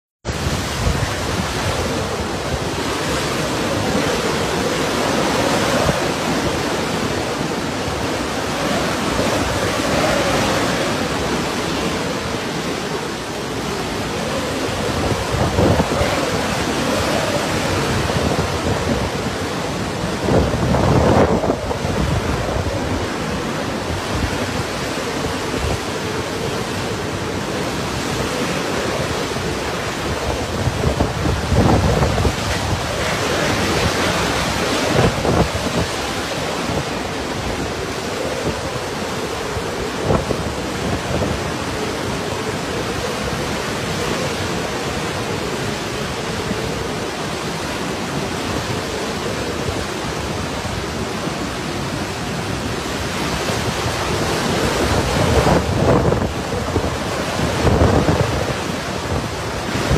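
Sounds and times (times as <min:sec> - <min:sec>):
heavy rain: 0:00.2 - 0:59.9
strong wind: 0:00.2 - 0:59.9.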